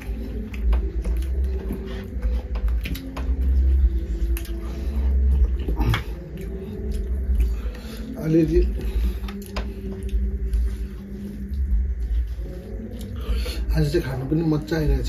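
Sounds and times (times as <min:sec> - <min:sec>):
chewing and mouth smacks: 0:00.0 - 0:13.4
steady low hum: 0:00.0 - 0:15.0.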